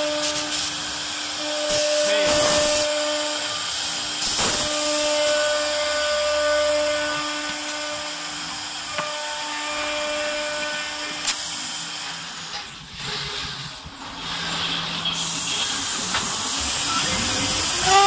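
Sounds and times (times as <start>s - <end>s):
router bit cutting hiss: 0.0s - 12.6s, 15.1s - 18.0s
wood router whining: 0.0s - 13.8s, 15.7s - 18.0s.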